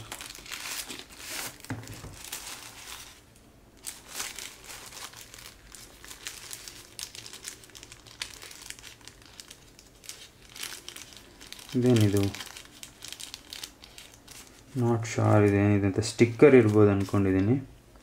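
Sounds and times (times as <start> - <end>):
packaging crinkling: 0.0 - 17.6.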